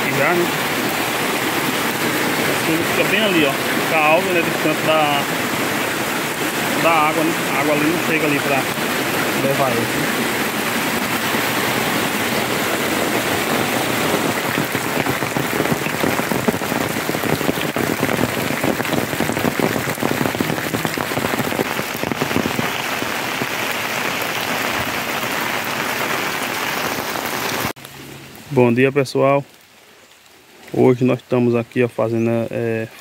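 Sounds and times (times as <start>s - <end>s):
heavy rain on foliage: 0.0s - 33.0s.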